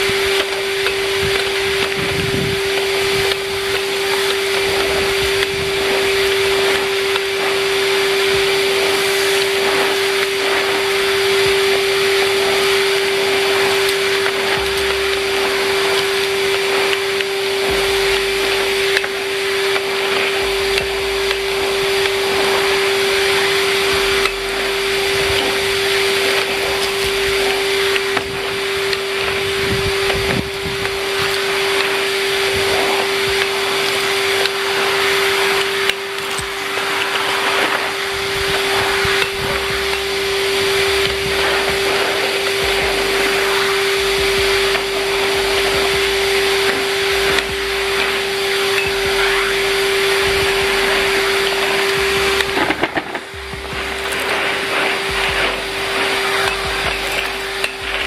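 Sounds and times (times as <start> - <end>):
air rushing through hose: 0.0 - 58.0
vacuum cleaner motor whine: 0.0 - 58.0.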